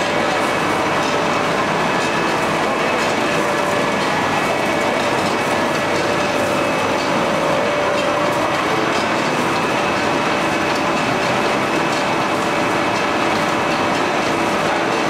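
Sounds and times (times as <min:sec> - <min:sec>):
pellet mill clatter: 0:00.0 - 0:15.0.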